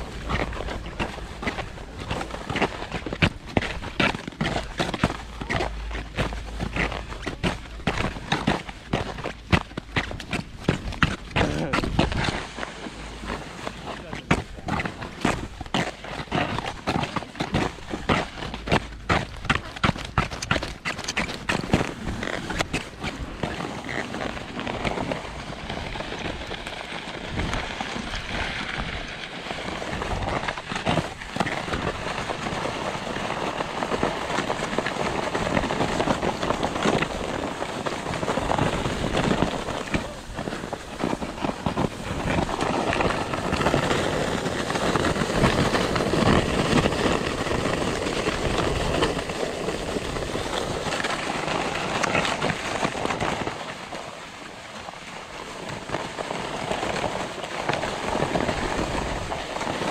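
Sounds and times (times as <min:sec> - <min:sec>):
skis scraping over icy snow: 0:00.0 - 0:59.9.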